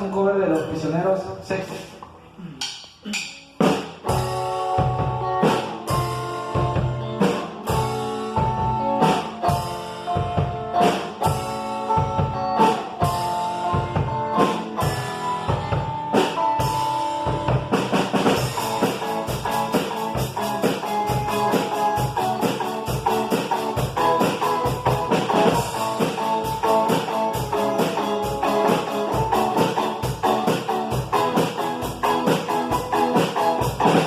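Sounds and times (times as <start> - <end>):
drum kit beat: 2.5 - 34.0
rock band playing: 3.0 - 34.0.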